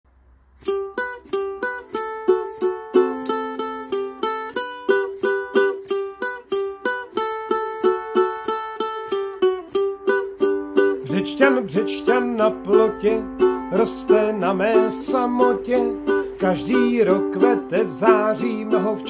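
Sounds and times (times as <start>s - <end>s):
ukulele strumming: 0.4s - 19.0s.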